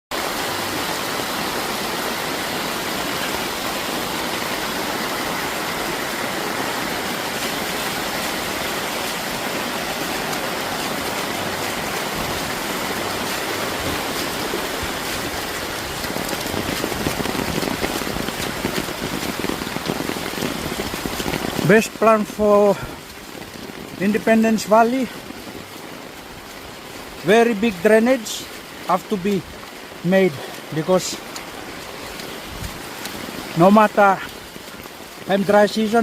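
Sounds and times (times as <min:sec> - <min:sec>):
running floodwater: 0:00.1 - 0:36.0
steady rain: 0:00.1 - 0:36.0.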